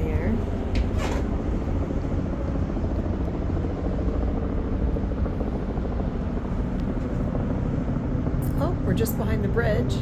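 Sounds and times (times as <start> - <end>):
helicopter rotor drone: 0.0 - 10.0.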